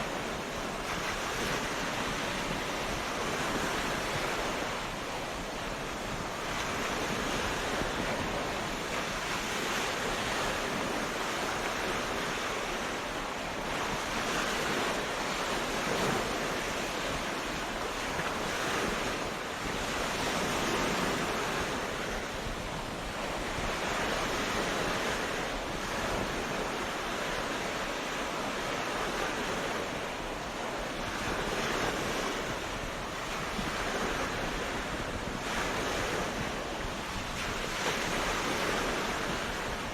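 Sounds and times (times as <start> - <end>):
sea waves breaking on a beach: 0.0 - 39.9
wind in the microphone: 0.0 - 39.9.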